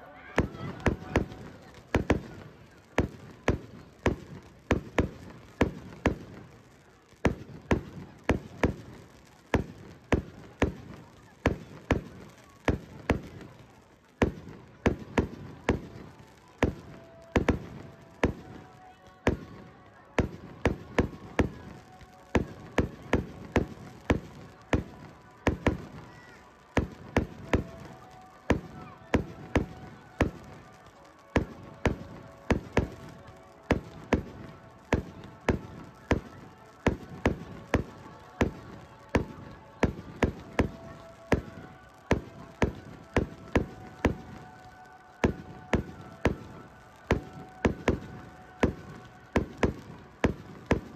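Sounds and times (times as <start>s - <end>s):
fireworks bursting bangs: 0.4s - 50.9s.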